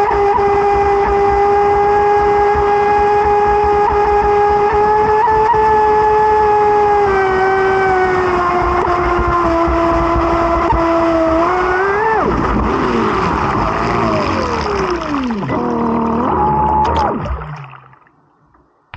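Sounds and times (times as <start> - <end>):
model boat motor whining: 0.0 - 17.8.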